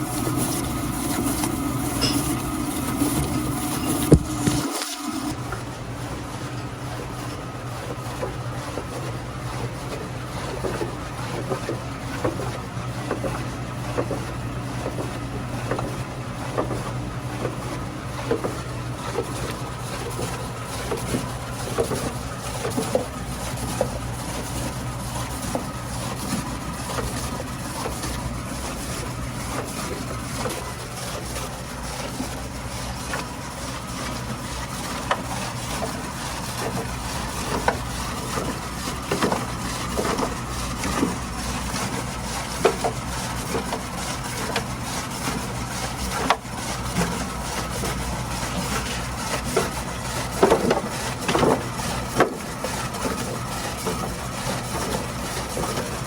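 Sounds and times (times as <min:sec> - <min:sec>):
motor hum: 0:00.0 - 0:56.0.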